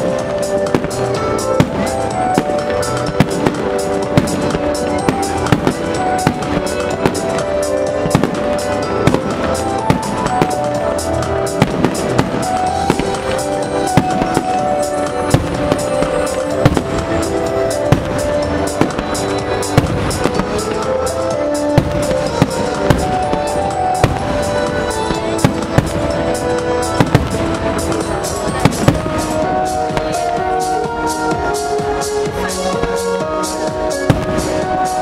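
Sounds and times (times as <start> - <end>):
loud music with held melody: 0.0 - 35.0.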